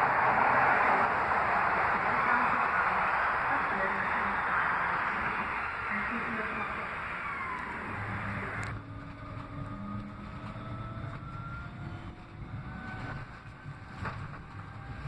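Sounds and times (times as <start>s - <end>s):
electric motor whine: 0.0s - 15.0s
tram wheels rumbling on rail: 0.0s - 15.0s.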